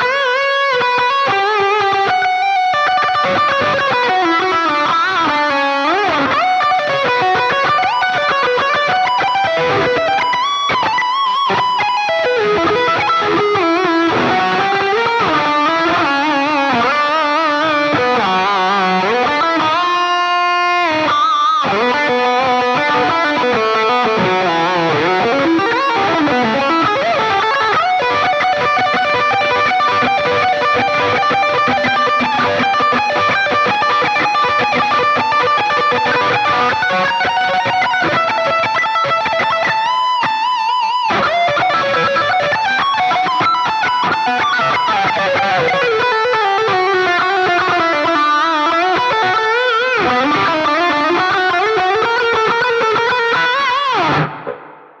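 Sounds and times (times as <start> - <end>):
distorted electric guitar solo: 0.0 - 55.0.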